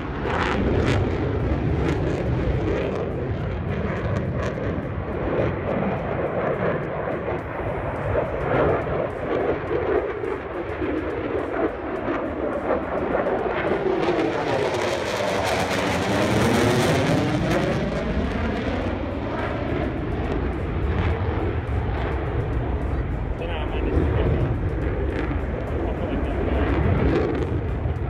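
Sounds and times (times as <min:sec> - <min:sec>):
fighter jet engine rushing: 0:00.0 - 0:28.0.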